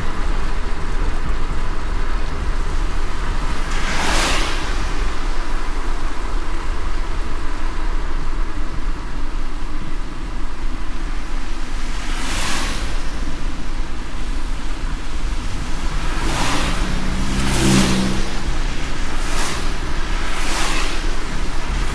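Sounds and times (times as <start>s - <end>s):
hiss of rain and wet tyres: 0.0s - 21.9s
road rumble: 0.0s - 21.9s.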